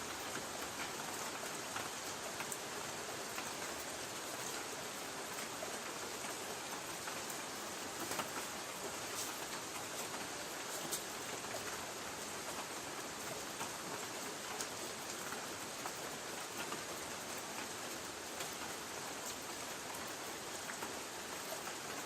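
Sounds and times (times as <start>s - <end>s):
rain on a tin roof: 0.0s - 22.0s.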